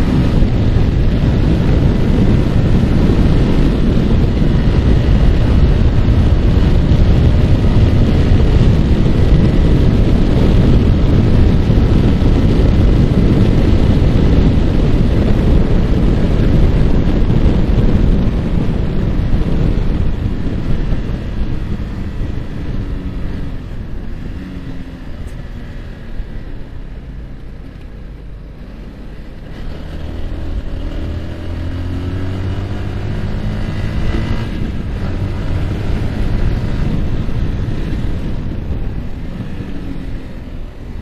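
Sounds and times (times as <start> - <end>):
motorcycle engine running: 0.0 - 41.0
wind buffeting microphone: 0.0 - 41.0.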